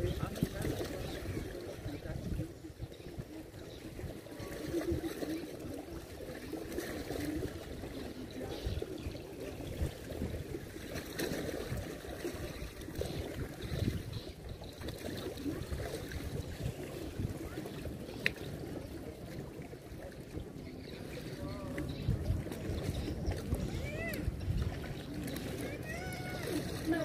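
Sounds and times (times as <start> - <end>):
water lapping and splashing: 0.0 - 27.0.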